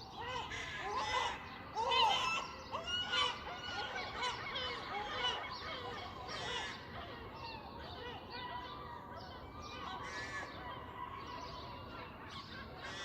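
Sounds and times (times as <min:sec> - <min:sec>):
other birds calling: 0:00.0 - 0:13.0
seagulls calling: 0:00.0 - 0:13.0.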